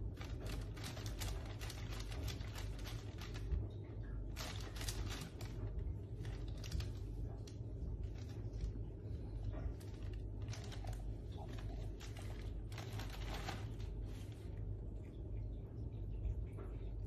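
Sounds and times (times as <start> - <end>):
plastic sleeve crinkling: 0.0 - 14.7
steady low hum: 0.0 - 17.0.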